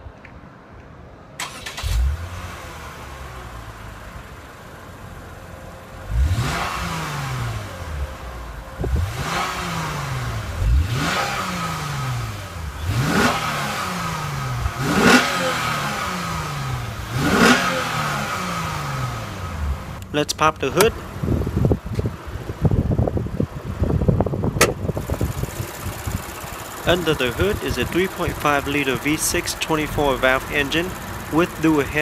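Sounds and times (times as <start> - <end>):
car engine idling: 1.4 - 32.0
car engine revving: 1.4 - 32.0
car engine starting: 1.4 - 32.0.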